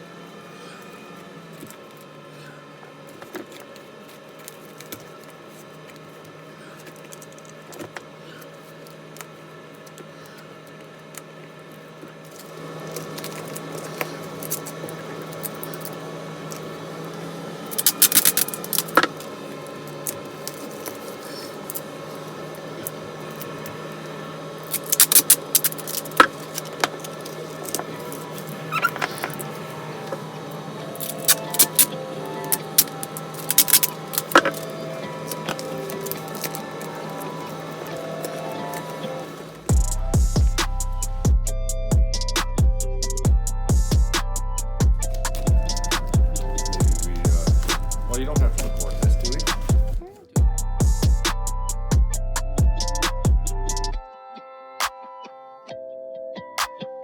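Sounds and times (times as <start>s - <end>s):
steady mechanical hum: 0.0s - 54.1s.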